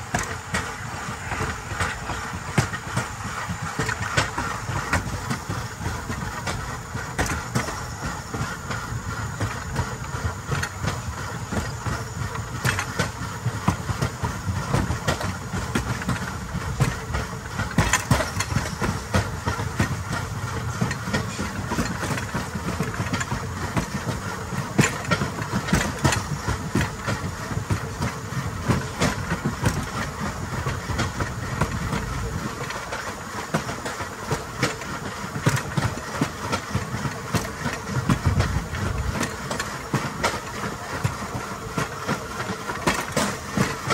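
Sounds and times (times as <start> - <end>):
metal wheels rolling on rails: 0.0 - 43.9
wheels clacking on rails: 0.0 - 43.9.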